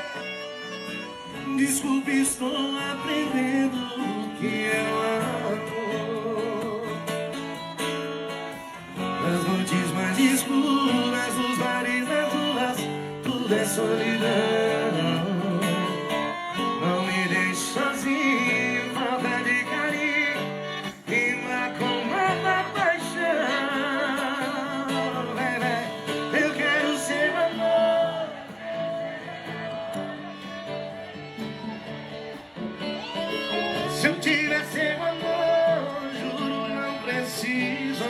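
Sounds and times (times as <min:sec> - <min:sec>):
strummed acoustic guitar: 0:00.0 - 0:38.0.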